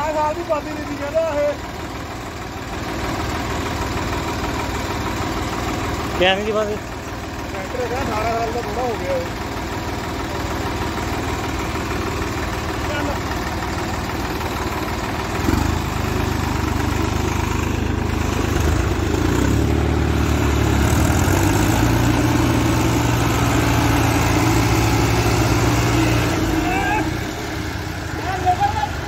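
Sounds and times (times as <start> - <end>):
tractor diesel engines running: 0.0 - 29.0.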